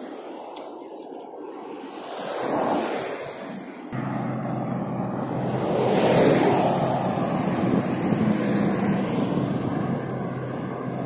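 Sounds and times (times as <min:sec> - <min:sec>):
road traffic noise: 0:00.0 - 0:11.0
car passing by: 0:01.9 - 0:11.0.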